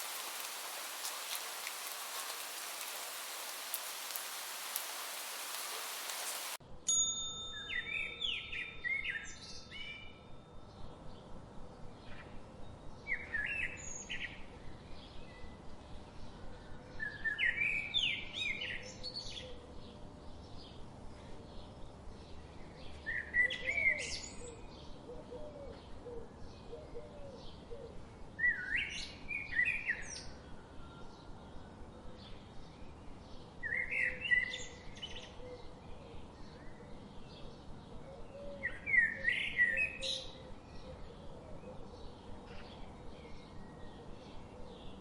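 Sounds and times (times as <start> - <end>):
songbird singing: 0.0 - 6.6, 7.5 - 45.0.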